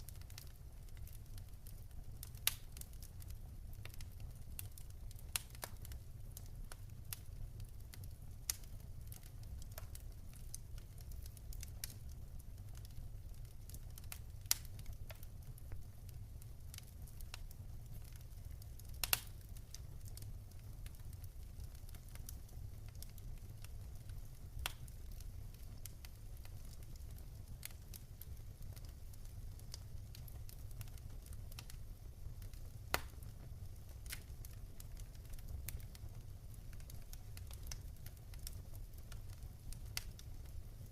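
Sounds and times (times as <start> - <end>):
fire pops: 0.0 - 40.9
low fire rumble: 0.0 - 40.9
wood fire crackling: 0.0 - 40.9.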